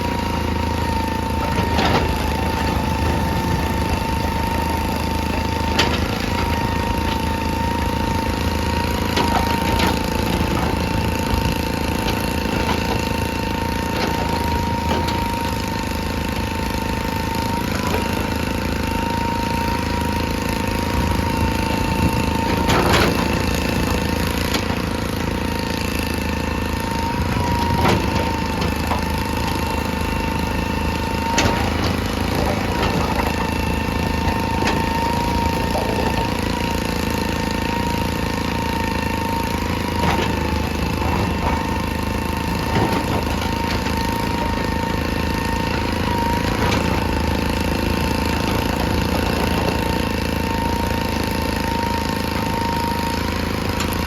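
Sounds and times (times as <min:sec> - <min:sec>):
excavator diesel engine whining: 0:00.0 - 0:54.0.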